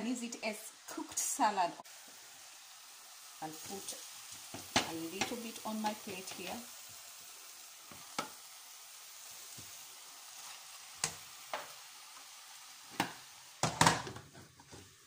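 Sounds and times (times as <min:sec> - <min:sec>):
food sizzling in pot: 0:00.0 - 0:15.0.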